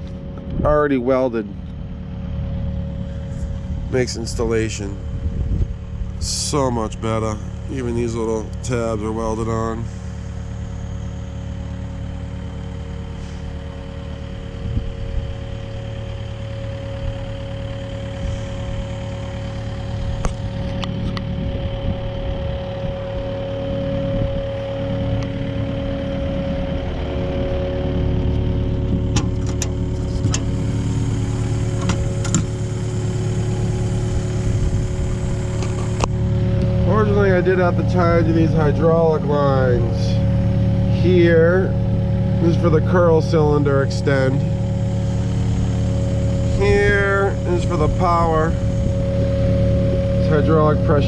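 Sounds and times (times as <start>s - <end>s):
diesel engine idling: 0.0s - 51.0s
steady whine: 0.0s - 51.0s.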